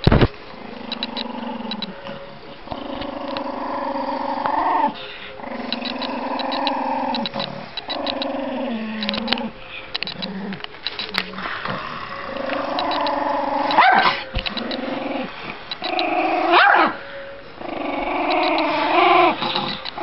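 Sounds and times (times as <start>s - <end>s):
small dog growling: 0.5s - 17.0s, 17.6s - 20.0s.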